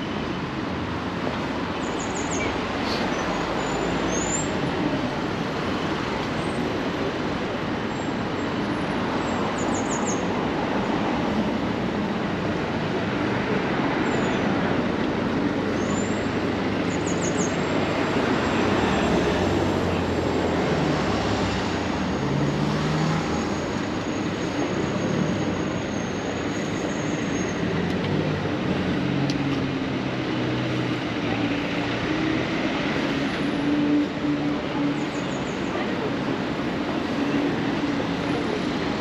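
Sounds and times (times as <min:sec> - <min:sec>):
cars passing and idling: 0:00.0 - 0:39.0.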